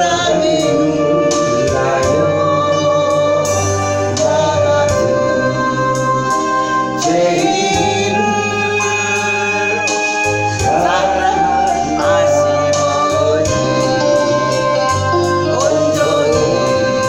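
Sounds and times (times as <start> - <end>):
gospel worship singing with band: 0.0 - 17.0.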